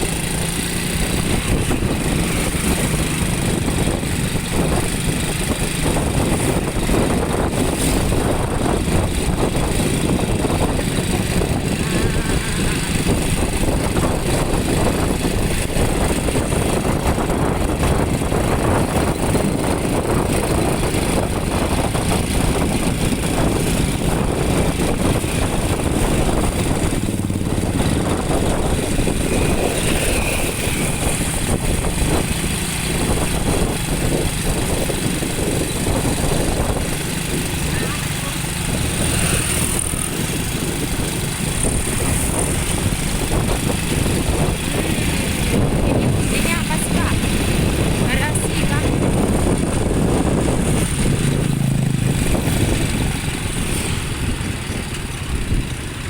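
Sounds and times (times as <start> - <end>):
motorcycle engine running: 0.0 - 56.0
road noise: 0.0 - 56.0
wind rush: 0.0 - 56.0.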